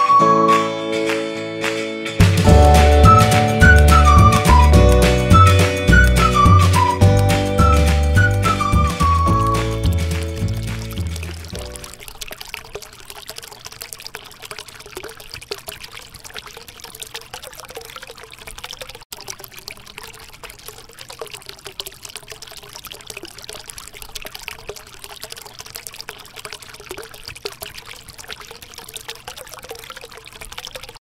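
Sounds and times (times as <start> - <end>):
water trickling into basin: 2.2 - 31.0.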